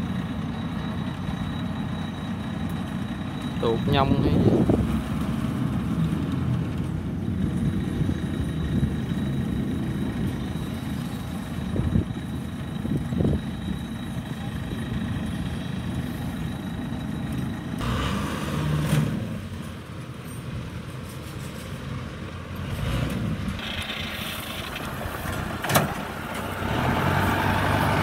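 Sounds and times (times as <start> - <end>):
combine harvester engine: 0.0 - 28.0
small tracked machine driving: 0.0 - 28.0.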